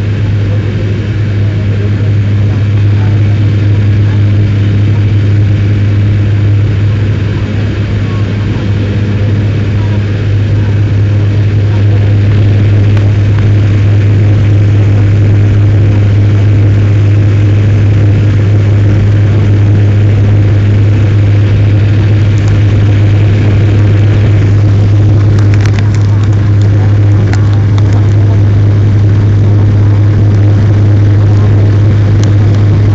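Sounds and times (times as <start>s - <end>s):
airliner cabin engine drone: 0.0s - 32.9s.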